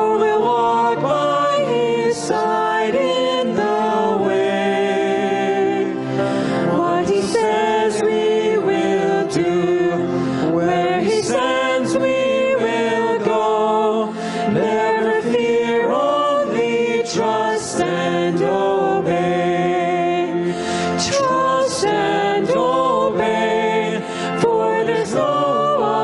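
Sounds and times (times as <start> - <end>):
group singing a hymn: 0.0 - 26.0.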